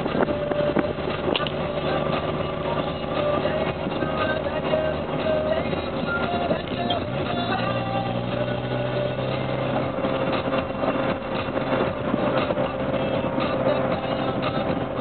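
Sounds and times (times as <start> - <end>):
car engine and road rumble: 0.0 - 15.0
music on car stereo: 0.0 - 15.0.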